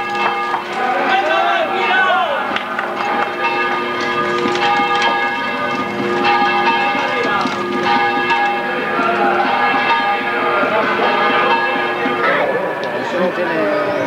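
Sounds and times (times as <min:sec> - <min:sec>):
bells ringing: 0:00.0 - 0:14.0.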